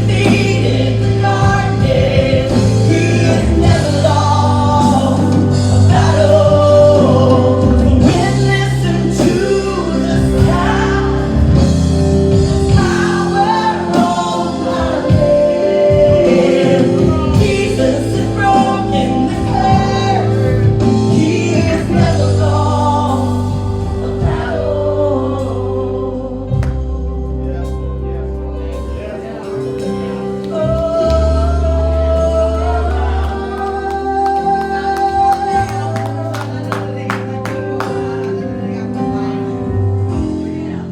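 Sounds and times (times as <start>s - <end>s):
choir singing gospel song: 0.0s - 27.5s, 28.1s - 40.9s
instrumental backing: 0.0s - 40.9s.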